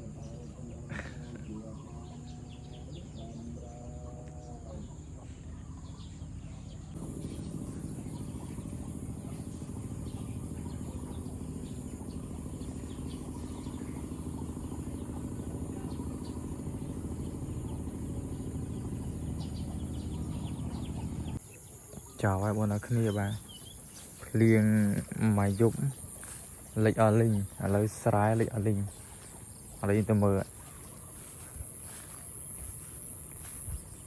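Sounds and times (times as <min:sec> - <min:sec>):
faint bird chirps: 0:00.0 - 0:34.0
steady low hum: 0:00.0 - 0:34.0.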